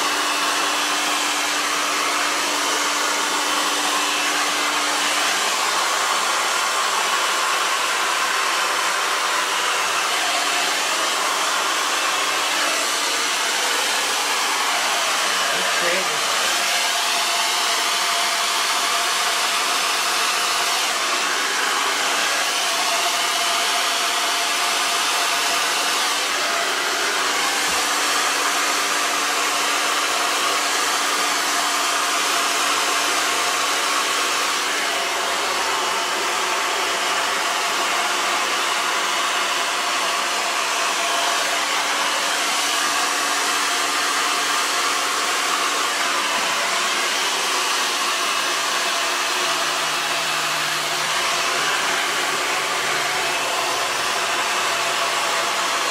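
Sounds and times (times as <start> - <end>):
hair dryer running: 0.0 - 55.9.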